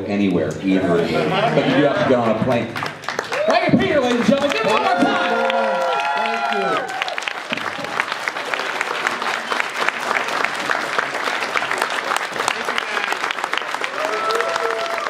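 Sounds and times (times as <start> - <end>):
audience applauding: 0.9 - 15.0.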